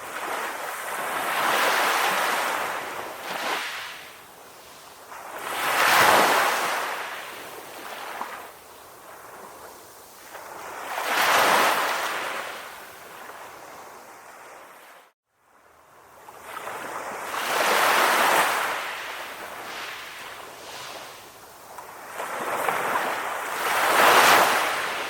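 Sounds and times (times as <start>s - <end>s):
sea waves washing onto shore: 0.0s - 14.9s, 16.3s - 25.0s.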